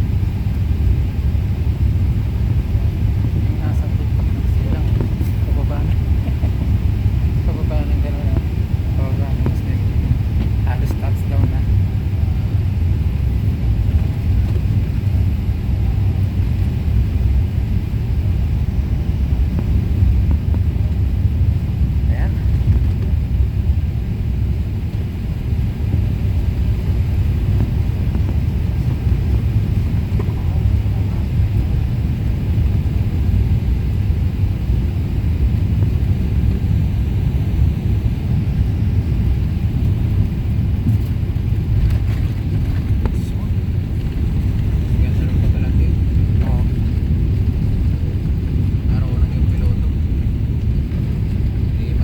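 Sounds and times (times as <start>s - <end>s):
jet engines rumbling in cabin: 0.0s - 52.0s.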